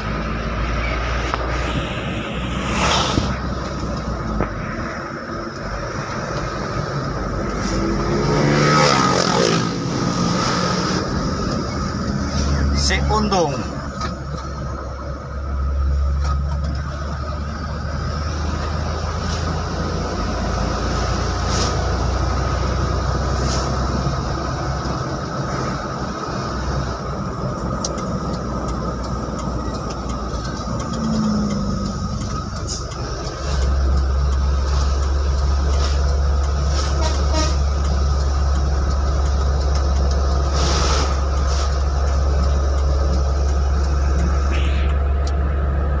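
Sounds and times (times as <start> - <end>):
truck engine and tyre drone: 0.0 - 46.0.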